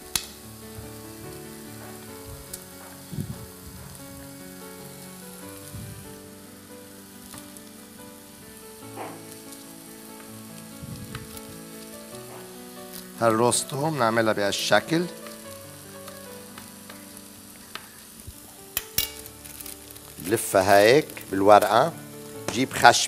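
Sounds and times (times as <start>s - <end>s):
onions sizzling in a frying pan: 0.0s - 23.0s.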